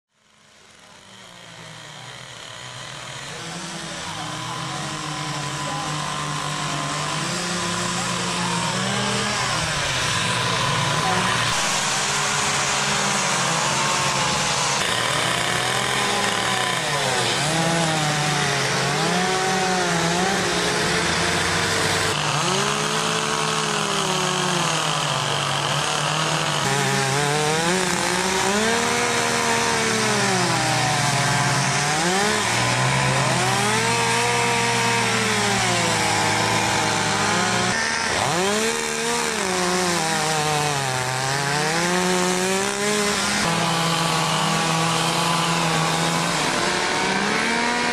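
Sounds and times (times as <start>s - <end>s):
chainsaw cutting wood: 0.1s - 47.9s.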